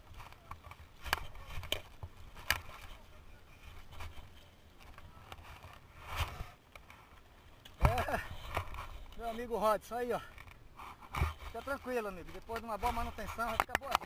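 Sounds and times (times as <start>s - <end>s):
rustling and scuffing: 0.0s - 13.7s
bikes knocking and rattling: 0.0s - 14.0s.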